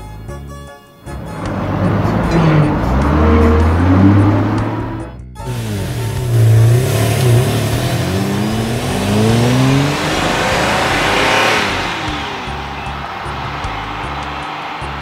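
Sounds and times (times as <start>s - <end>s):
background music with ticking beat: 0.0s - 15.0s
car passing by: 1.0s - 15.0s
cartoon car engine revving: 1.0s - 15.0s.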